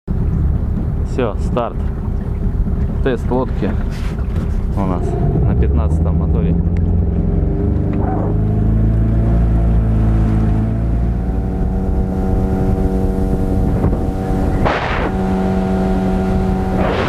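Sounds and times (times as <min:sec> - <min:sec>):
outboard motor running: 0:00.1 - 0:17.0.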